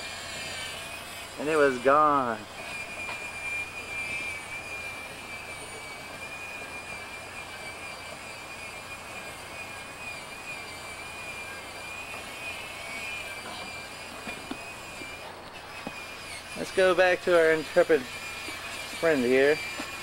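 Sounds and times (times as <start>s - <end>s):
tape mechanism whine: 0.0s - 20.0s.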